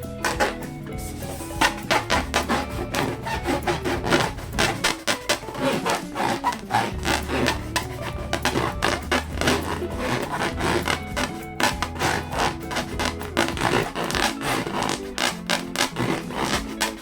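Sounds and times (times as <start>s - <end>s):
hands rubbing balloons: 0.0s - 17.0s.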